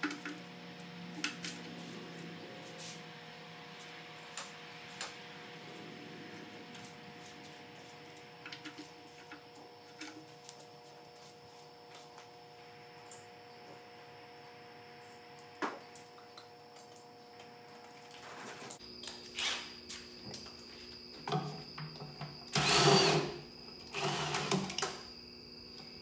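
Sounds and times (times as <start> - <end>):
steady electrical hum: 0.0 - 21.8.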